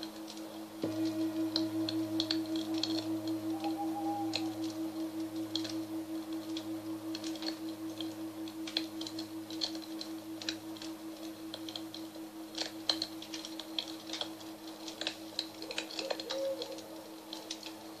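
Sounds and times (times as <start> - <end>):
campfire crackling: 0.0 - 18.0
singing bowl ringing: 0.8 - 15.6.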